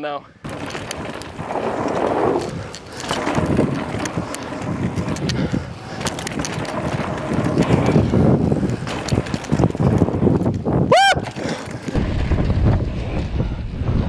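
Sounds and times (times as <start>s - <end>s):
tyre and wind rumble: 0.0s - 14.0s
bike rattling and clicking: 0.3s - 14.0s.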